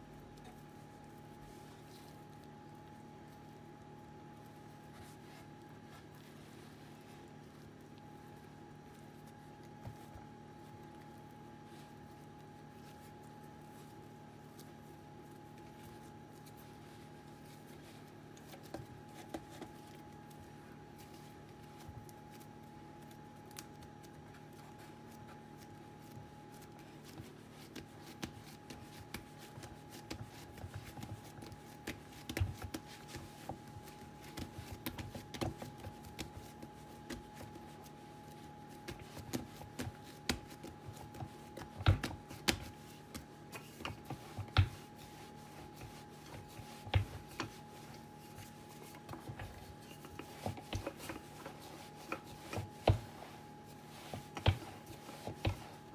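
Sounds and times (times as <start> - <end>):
faint steady hum: 0.0 - 55.9
hands rubbing and patting dough: 0.0 - 55.9.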